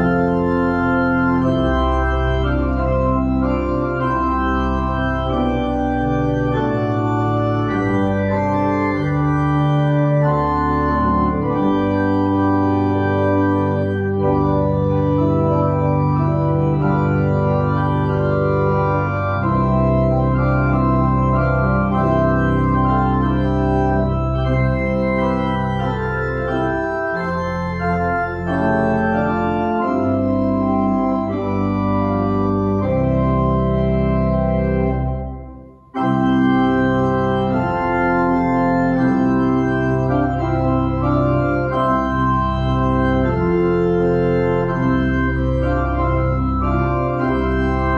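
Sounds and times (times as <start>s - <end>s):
church organ chords: 0.0s - 47.9s.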